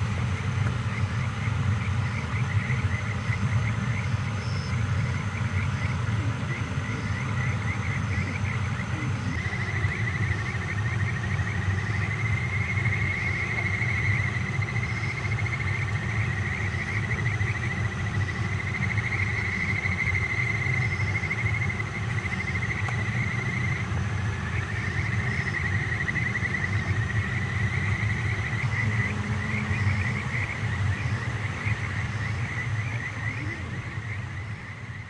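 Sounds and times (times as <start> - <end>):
night insects trilling: 0.0 - 35.0
steady low rumble: 0.0 - 35.0.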